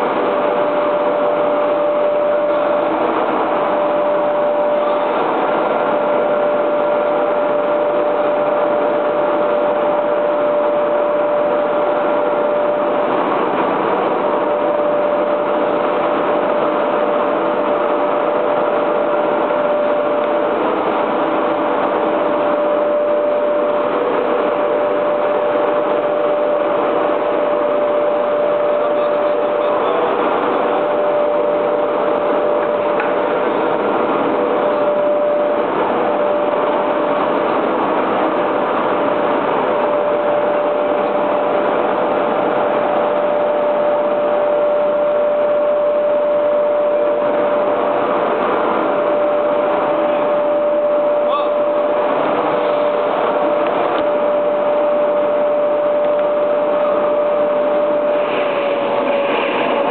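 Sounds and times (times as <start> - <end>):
moulding machine running with whine: 0.0 - 59.9.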